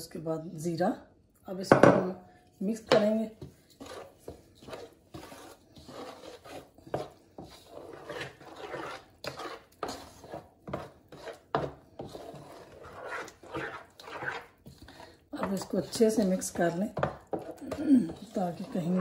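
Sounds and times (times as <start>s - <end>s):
spoon scraping a pan: 1.7s - 19.0s.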